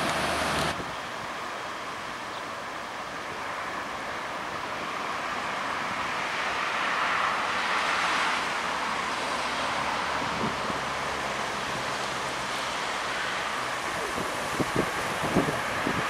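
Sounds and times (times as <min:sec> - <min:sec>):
distant diesel locomotive: 0:00.0 - 0:16.0.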